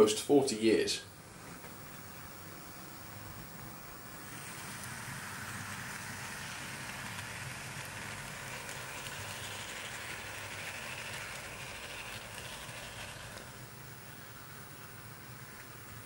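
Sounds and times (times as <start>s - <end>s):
low motor hum: 1.2s - 16.0s
model train wheels on rail: 1.4s - 16.0s.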